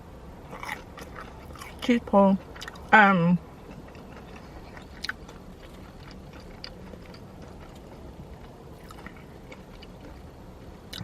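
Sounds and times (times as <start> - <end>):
quiet chewing: 0.5 - 2.9, 3.6 - 11.0.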